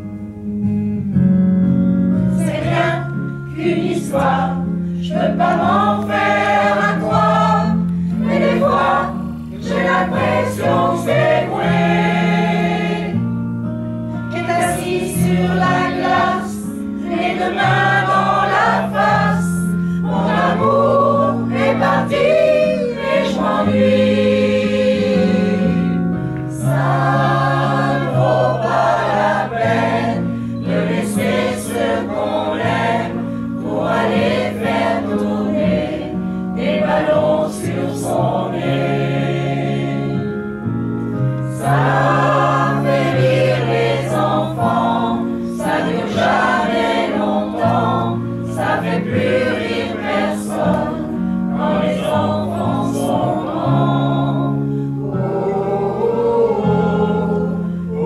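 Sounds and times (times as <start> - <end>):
mixed choir singing: 2.3 - 13.4, 14.2 - 40.6, 41.5 - 58.0.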